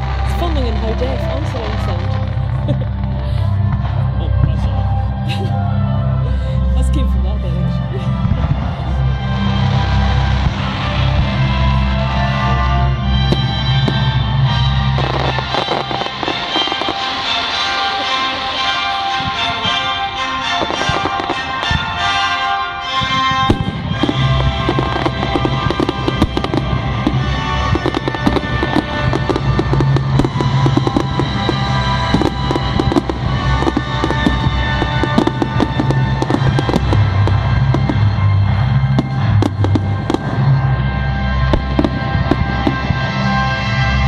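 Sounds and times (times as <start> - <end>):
fireworks crackling and popping: 0.0 - 5.6, 7.8 - 44.0.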